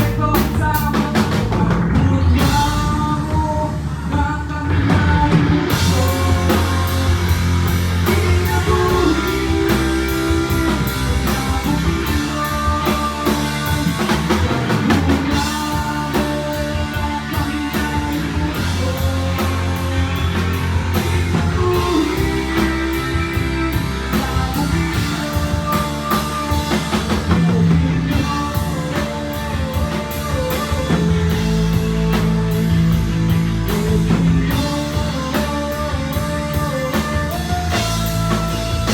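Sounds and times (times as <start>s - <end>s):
drum kit: 0.0s - 38.9s
electric guitar: 0.0s - 38.9s
low held bass notes: 0.0s - 38.9s.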